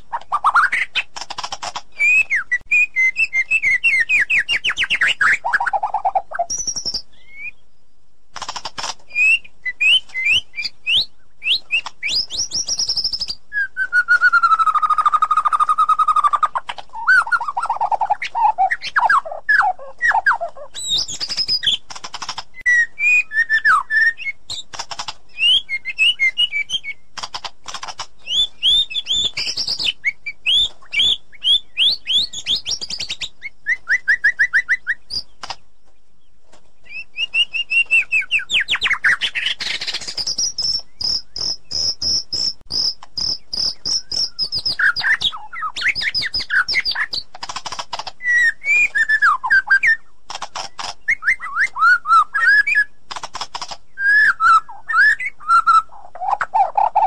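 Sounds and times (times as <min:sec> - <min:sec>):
bird singing whistled song: 0:01.9 - 0:07.7, 0:09.1 - 0:21.8, 0:22.5 - 0:24.7, 0:25.3 - 0:27.1, 0:28.2 - 0:35.4, 0:36.8 - 0:47.3, 0:48.2 - 0:53.0, 0:53.9 - 0:57.0.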